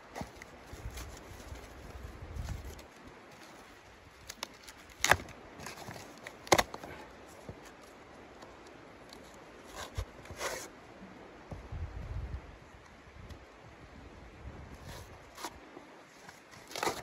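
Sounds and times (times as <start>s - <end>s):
rustle: 0.0s - 17.0s.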